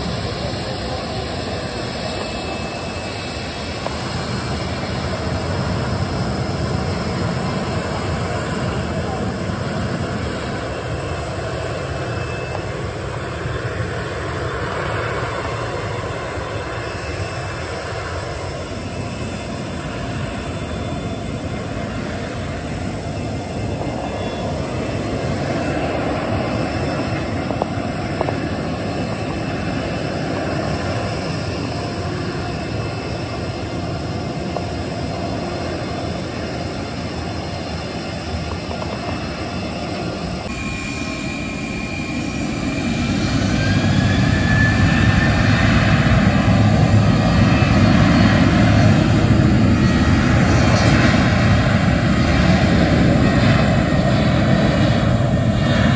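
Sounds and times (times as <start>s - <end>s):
jet engine taxiing: 0.0s - 55.9s.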